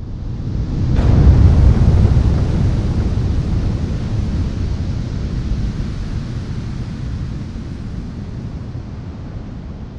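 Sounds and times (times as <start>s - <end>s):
wind buffeting microphone: 0.1s - 9.9s
ocean surf: 1.0s - 9.2s.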